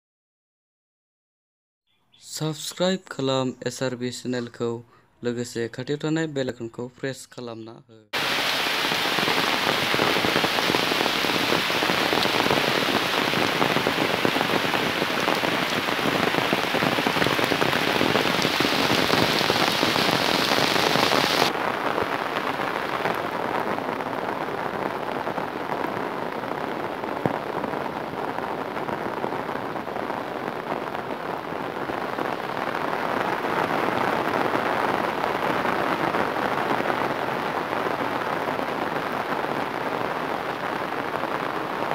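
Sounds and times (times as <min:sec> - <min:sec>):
heavy rain pouring onto water: 0:08.2 - 0:41.9.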